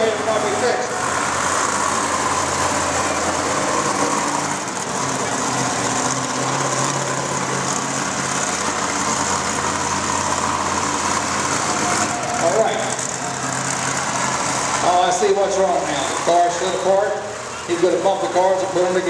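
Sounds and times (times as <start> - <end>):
truck engine running at low revs: 0.0 - 19.0.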